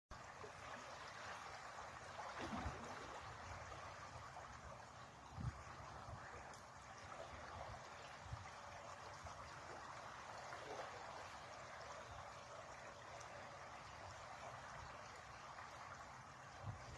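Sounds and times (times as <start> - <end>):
river water flowing: 0.1 - 16.9.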